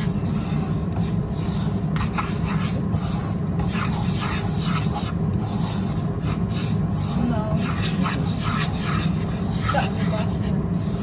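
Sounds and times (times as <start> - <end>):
metal spoon scraping a pan: 0.0 - 11.0
steady low hum: 0.0 - 11.0.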